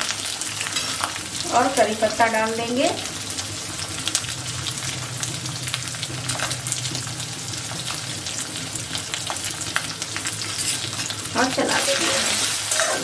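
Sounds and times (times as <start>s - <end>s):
oil popping and crackling: 0.0s - 2.0s, 2.9s - 13.0s
onions sizzling in oil: 0.0s - 13.0s.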